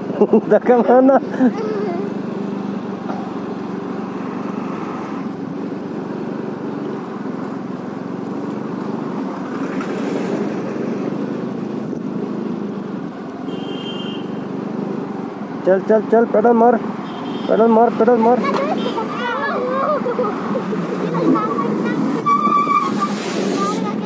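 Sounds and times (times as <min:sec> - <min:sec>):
bus passing: 0:00.0 - 0:24.0
motorcycle engine hum: 0:00.0 - 0:24.0
road noise: 0:00.0 - 0:24.0.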